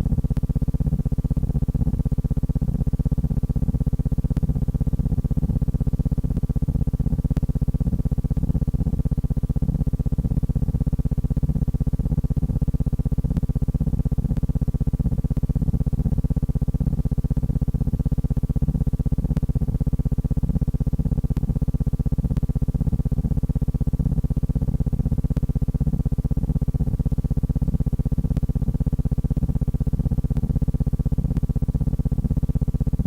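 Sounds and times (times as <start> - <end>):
low pulsing buzzing hum: 0.0 - 33.0.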